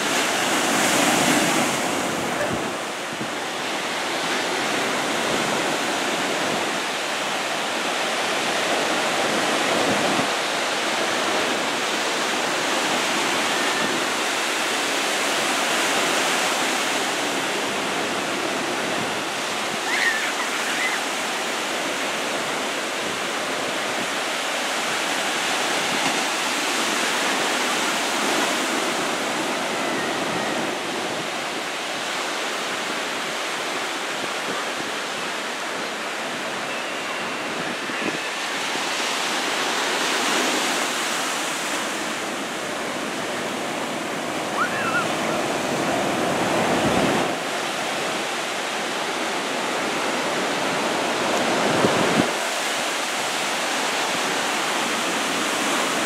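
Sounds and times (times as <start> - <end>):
ocean surf breaking on shore: 0.0 - 56.0.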